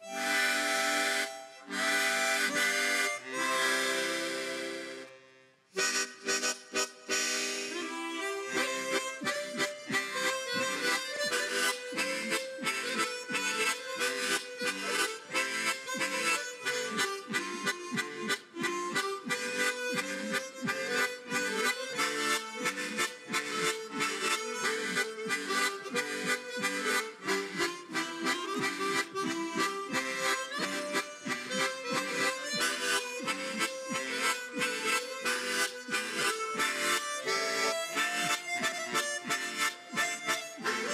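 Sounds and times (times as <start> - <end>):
harmonica ensemble playing: 0.0 - 40.9.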